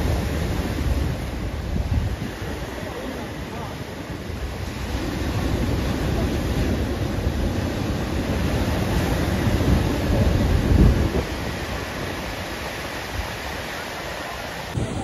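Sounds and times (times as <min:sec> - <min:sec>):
waves breaking against seawall: 0:00.0 - 0:15.0
wind buffeting microphone: 0:00.0 - 0:15.0.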